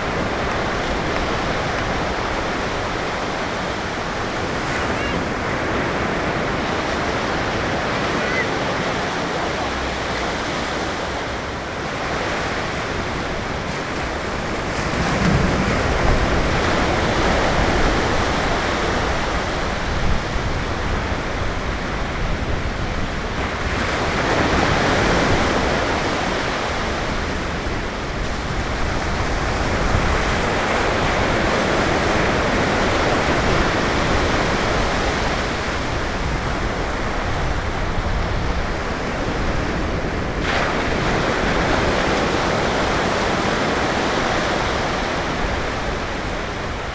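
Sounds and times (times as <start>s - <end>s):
ocean surf breaking on beach: 0.0s - 46.9s.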